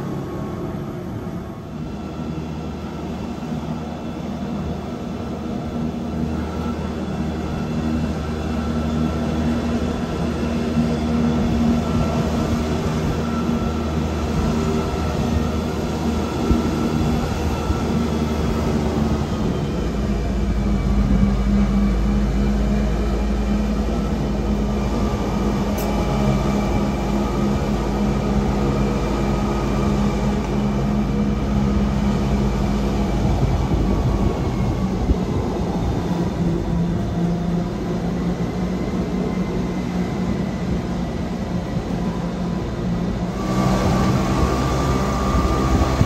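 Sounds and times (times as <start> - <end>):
train motors humming: 0.0 - 46.0.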